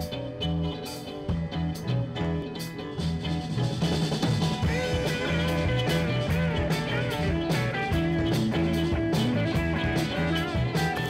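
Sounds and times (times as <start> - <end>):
bass line: 0.0 - 11.0
drum kit: 0.0 - 11.0
electric guitar lead: 0.0 - 11.0
keyboard: 0.0 - 11.0.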